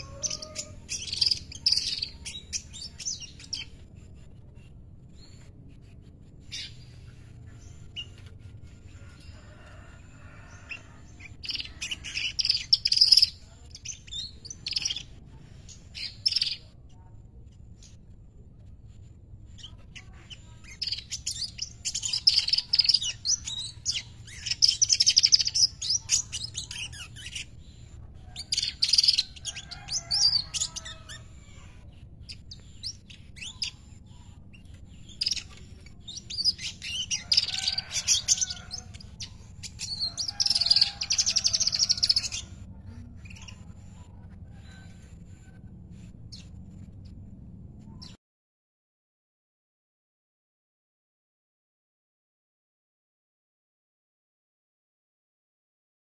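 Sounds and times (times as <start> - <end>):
bird singing buzzy chatter: 0.0 - 48.2.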